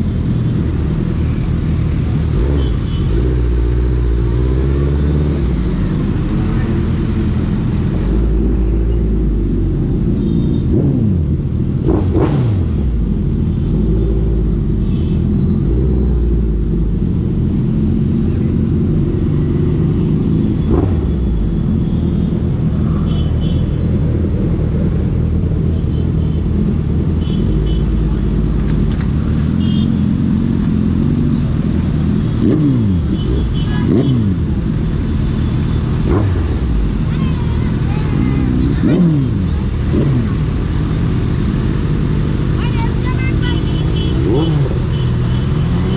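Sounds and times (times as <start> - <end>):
motorcycle engine rumbling: 0.0 - 45.9.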